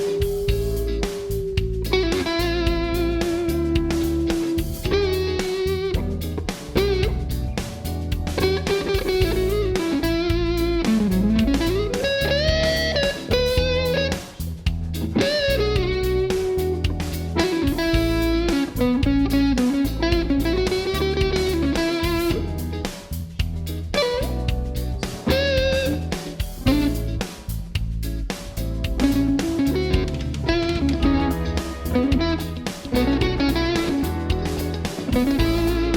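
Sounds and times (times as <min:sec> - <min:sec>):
electric guitar blues lead: 0:00.0 - 0:27.4, 0:28.3 - 0:35.9.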